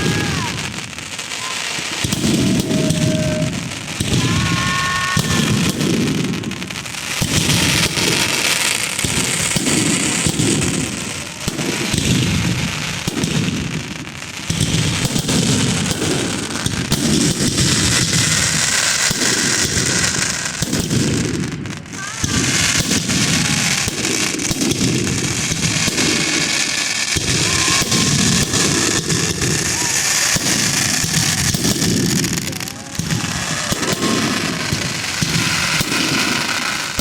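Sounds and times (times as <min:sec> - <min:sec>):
firework whistle: 0:00.0 - 0:13.4, 0:14.7 - 0:37.0
fireworks crackling and banging: 0:00.0 - 0:37.0.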